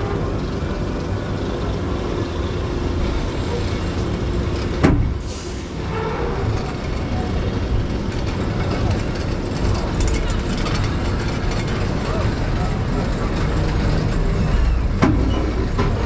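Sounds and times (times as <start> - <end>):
wheels rumbling on steel rails: 0.0 - 16.0.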